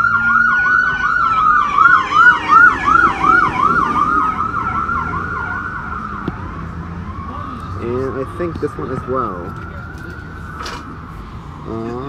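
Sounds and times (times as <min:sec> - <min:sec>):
emergency siren yelp: 0:00.0 - 0:12.0
siren wail: 0:00.0 - 0:12.0.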